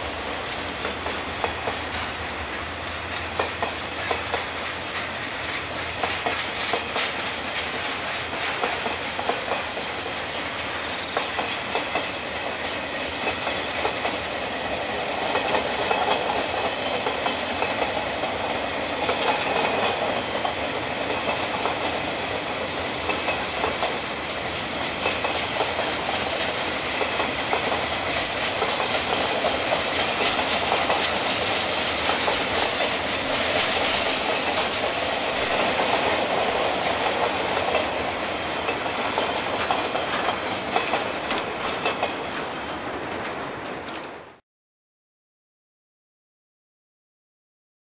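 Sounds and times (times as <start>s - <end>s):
clickety-clack of rail joints: 0.0s - 44.4s
freight train wheels rumbling: 0.0s - 44.4s.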